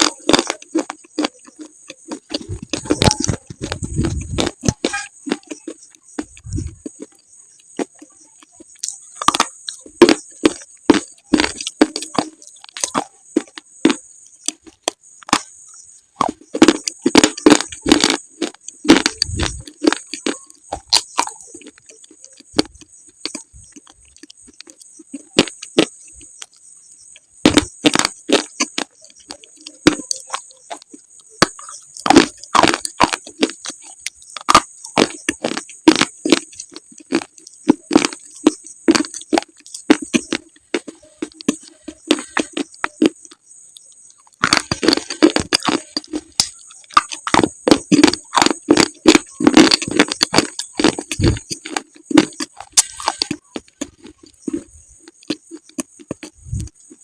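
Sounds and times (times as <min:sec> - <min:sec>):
slate being bitten and chewed: 0:00.0 - 0:08.1, 0:08.7 - 0:15.5, 0:16.2 - 0:26.6, 0:27.4 - 0:57.0.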